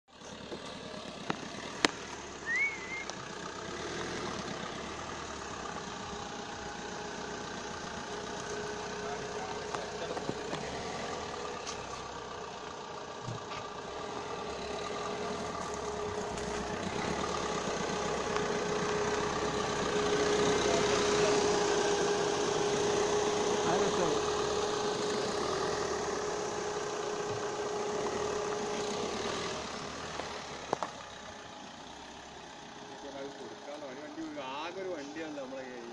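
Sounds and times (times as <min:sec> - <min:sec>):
car engine at low speed: 0:00.0 - 0:35.9.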